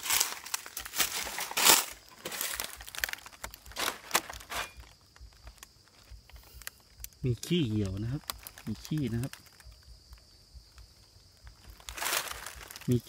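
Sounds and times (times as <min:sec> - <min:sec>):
dry leaves crackling and rustling: 0:00.0 - 0:09.8, 0:11.4 - 0:13.0.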